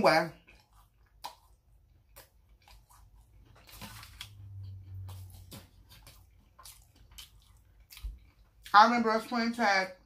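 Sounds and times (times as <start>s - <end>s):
wet chewing with mouth smacks: 0.2s - 8.8s
faint low hum: 0.5s - 8.7s.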